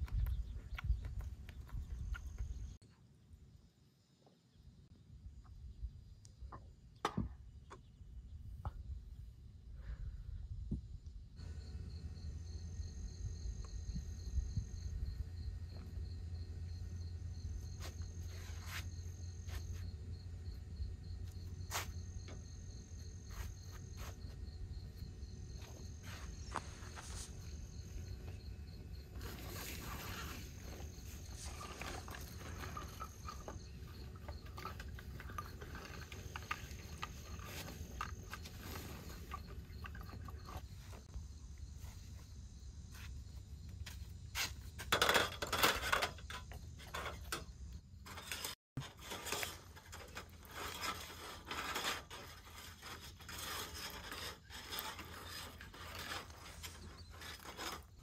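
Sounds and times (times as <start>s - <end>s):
insect steady high chirp: 0.0s - 6.9s, 7.6s - 48.3s.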